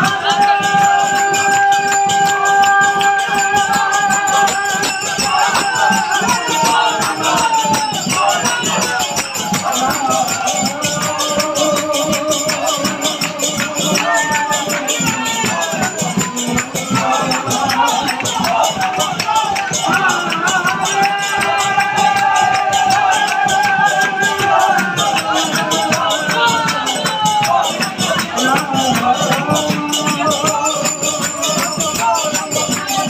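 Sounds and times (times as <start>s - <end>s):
hand cymbals jingling: 0.0s - 33.0s
voices singing: 0.0s - 33.0s.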